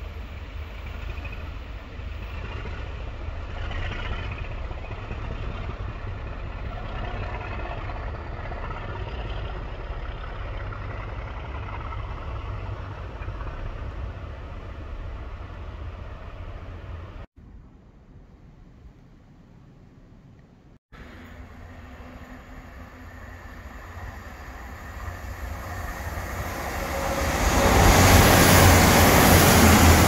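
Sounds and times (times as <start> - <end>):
distant diesel locomotive rumble: 0.0 - 17.6, 18.3 - 30.0.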